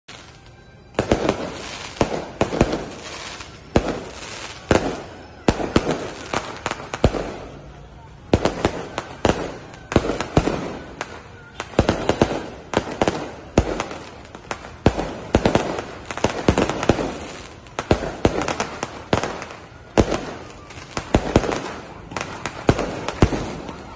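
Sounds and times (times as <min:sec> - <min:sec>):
fireworks bursting with sharp bangs: 0:00.1 - 0:23.9
fireworks crackling: 0:00.1 - 0:23.9.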